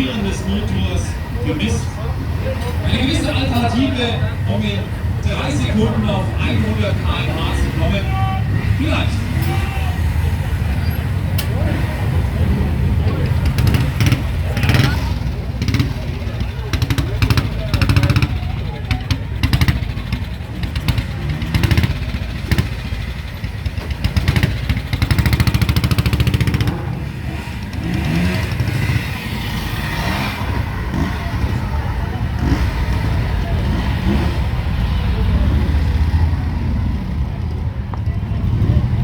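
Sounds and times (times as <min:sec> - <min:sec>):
motorcycles riding past: 0:00.0 - 0:39.0.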